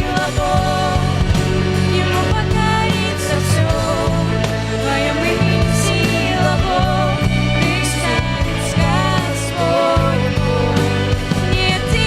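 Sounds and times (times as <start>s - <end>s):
worship band rock music: 0.0s - 12.0s.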